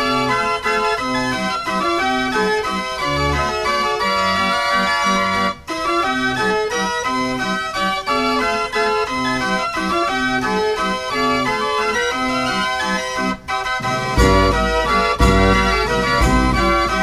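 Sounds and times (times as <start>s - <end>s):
band organ playing a tune: 0.0s - 17.0s.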